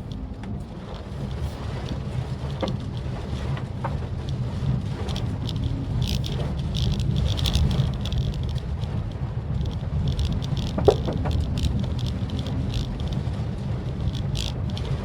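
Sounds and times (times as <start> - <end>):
car engine rumble: 0.0 - 15.0
rain pattering on car: 0.0 - 15.0.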